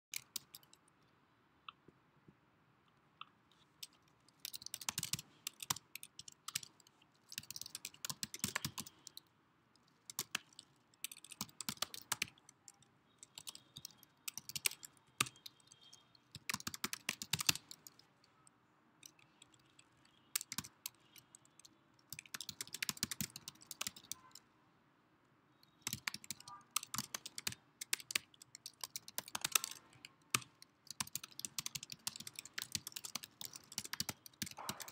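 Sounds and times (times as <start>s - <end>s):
typing on keyboard: 0.1s - 1.0s, 3.2s - 24.5s, 25.6s - 34.9s.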